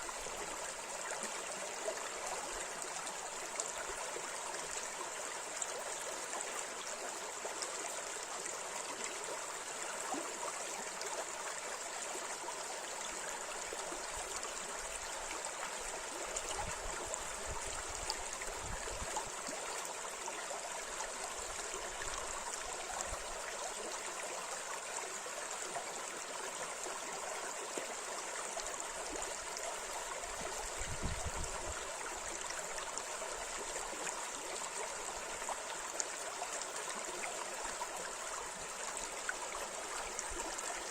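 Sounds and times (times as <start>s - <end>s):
river water rushing and babbling: 0.0s - 40.9s.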